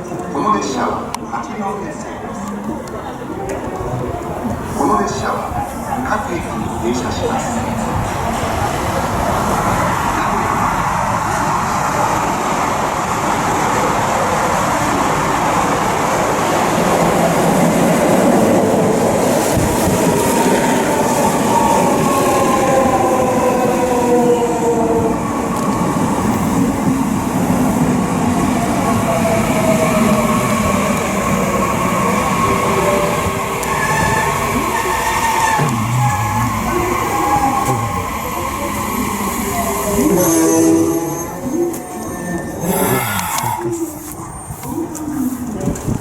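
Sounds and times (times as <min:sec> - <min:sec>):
train wheels rumbling on track: 0:02.0 - 0:46.0.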